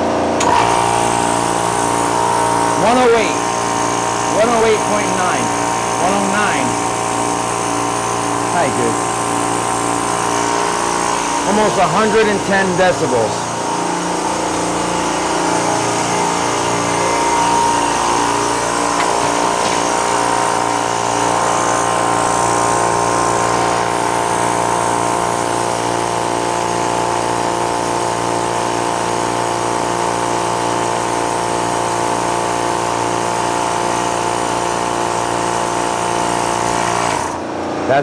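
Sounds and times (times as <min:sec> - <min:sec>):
air compressor whining: 0:00.0 - 0:38.0.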